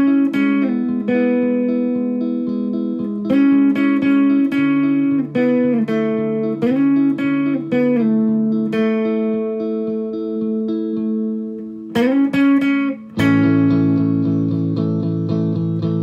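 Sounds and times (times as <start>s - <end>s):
plucked guitar notes: 0.0s - 16.0s.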